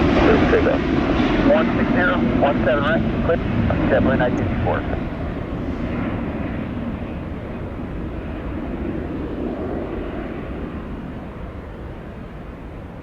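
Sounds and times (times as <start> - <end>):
jet airliner engine rumble: 0.0 - 13.0.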